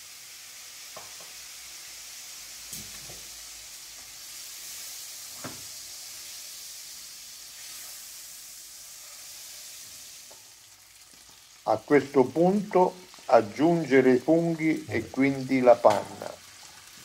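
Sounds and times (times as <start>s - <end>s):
chicken sizzling in a frying pan: 0.0s - 17.0s.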